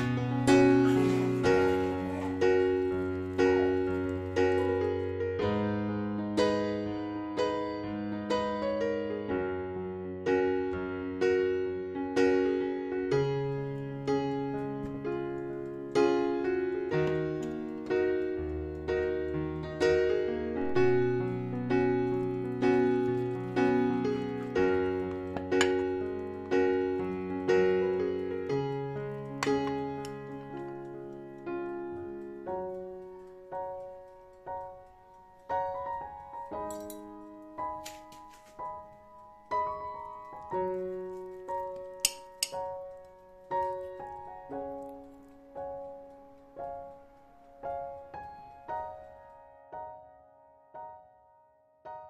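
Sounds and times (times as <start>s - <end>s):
gentle piano chords: 0.0s - 52.0s.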